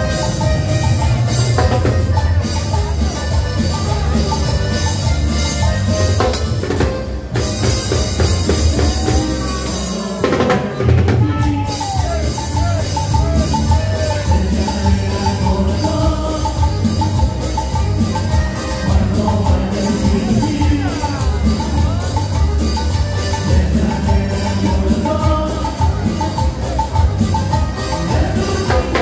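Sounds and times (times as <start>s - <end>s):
drum kit and timbales beat: 0.0s - 29.0s
heavy bass: 0.0s - 29.0s
latin dance band playing: 0.0s - 29.0s
sliding melodic line: 0.0s - 29.0s.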